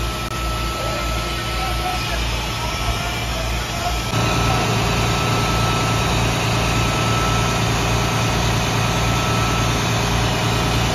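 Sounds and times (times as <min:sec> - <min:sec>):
engine idling: 0:00.0 - 0:10.9
faint steady whine: 0:00.0 - 0:10.9.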